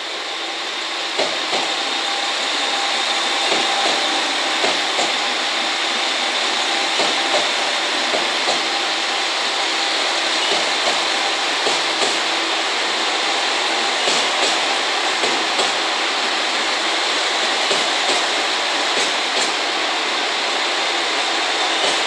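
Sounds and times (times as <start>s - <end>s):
diesel train engine running: 0.0s - 22.0s.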